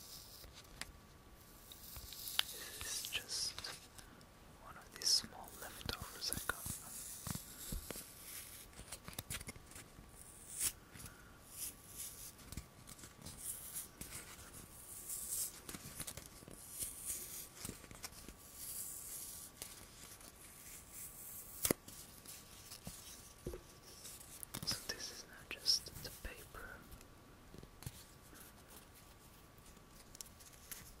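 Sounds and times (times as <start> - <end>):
soft scratching and rustling: 0.0 - 4.0, 4.8 - 31.0.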